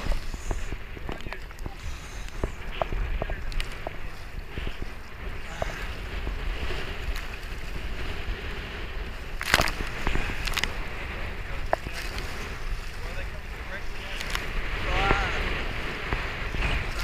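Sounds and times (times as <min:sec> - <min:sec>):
water lapping against kayak: 0:00.0 - 0:17.0
wave splashing over bow: 0:00.0 - 0:17.0
wind buffeting microphone: 0:00.0 - 0:17.0.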